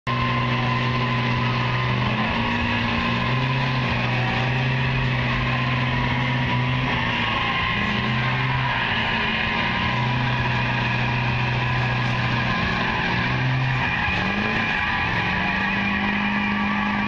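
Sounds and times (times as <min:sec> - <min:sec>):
diesel engines at high revs: 0:00.0 - 0:17.0
tires spinning on wet ground: 0:00.1 - 0:17.0.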